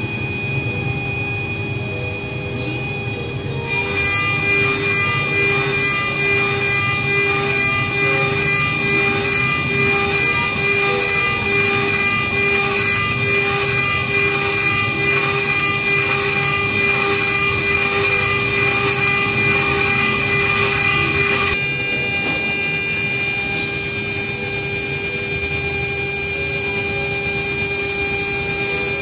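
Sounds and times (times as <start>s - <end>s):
end mill cutting metal: 0.0s - 29.0s
milling spindle high whine: 0.0s - 29.0s.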